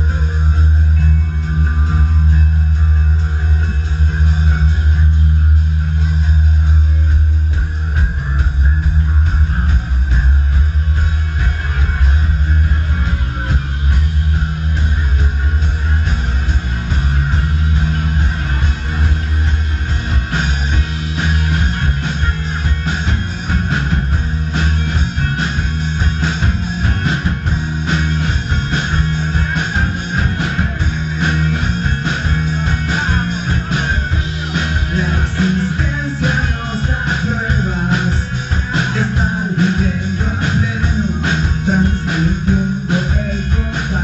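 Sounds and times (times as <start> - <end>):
drums: 0.0 - 44.0
heavy bass line: 0.0 - 44.0
strummed electric guitar: 0.0 - 44.0.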